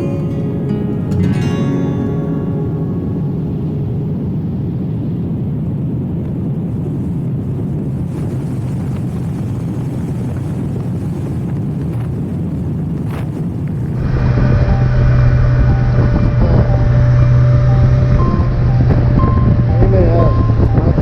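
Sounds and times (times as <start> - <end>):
motorcycle engine and road noise: 0.0 - 21.0
wind rushing over microphone: 0.0 - 21.0.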